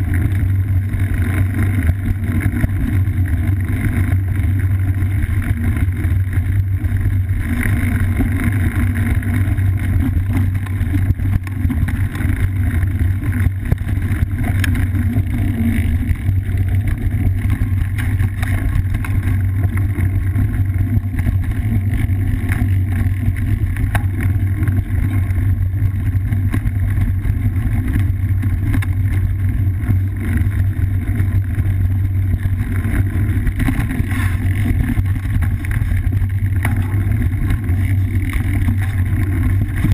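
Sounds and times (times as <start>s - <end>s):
trail vibration rumble: 0.0s - 39.9s
wind on microphone: 0.0s - 39.9s.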